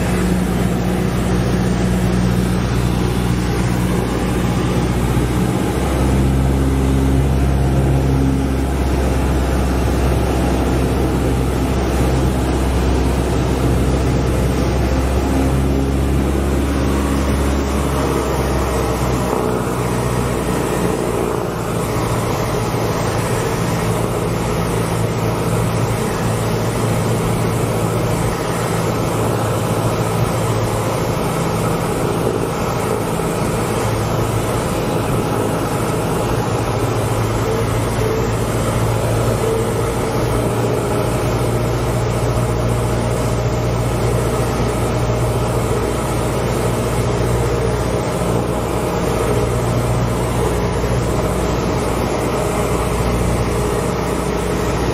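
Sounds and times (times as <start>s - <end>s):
light aircraft engine droning: 0.0s - 54.9s.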